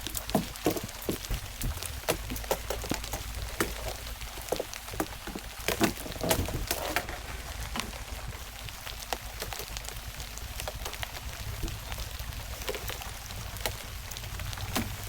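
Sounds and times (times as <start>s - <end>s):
low steady rumble: 0.0s - 15.0s
raindrops tapping on a surface: 0.0s - 15.0s.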